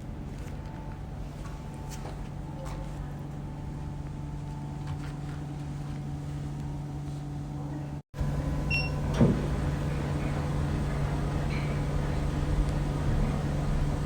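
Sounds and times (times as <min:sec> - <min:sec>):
machine electrical hum: 0:00.0 - 0:14.0.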